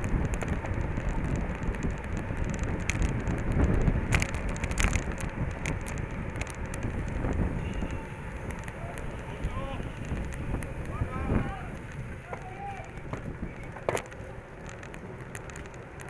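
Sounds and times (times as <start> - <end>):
wind on microphone: 0.0 - 14.1
sharp clicks and rattles: 0.0 - 16.0
tyres rumbling on road: 0.0 - 16.0.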